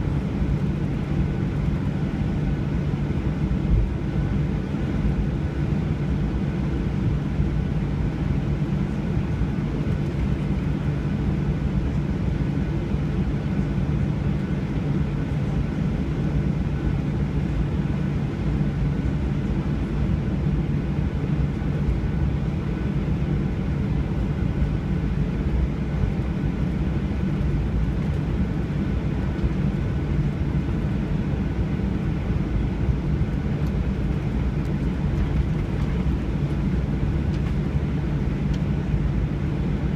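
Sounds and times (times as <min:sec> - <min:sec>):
faint steady whine: 0:00.0 - 0:39.9
jet engine and airflow rumble: 0:00.0 - 0:39.9.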